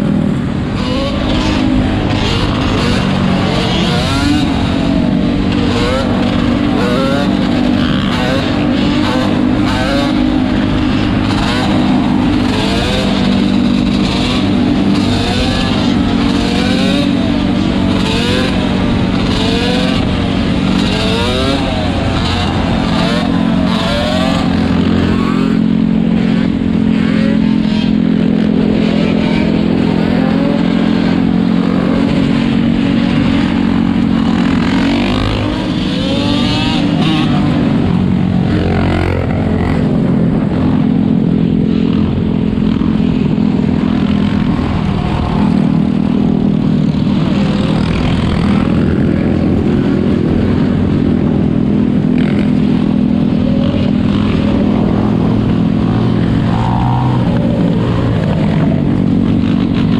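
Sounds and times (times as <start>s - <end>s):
atv engines revving: 0.0s - 59.9s
loud engine drone: 0.0s - 59.9s.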